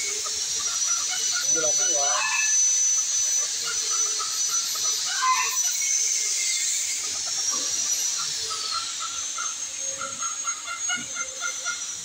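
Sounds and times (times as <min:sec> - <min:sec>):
steady high hiss: 0:00.0 - 0:12.0
thin high whine: 0:00.0 - 0:12.0.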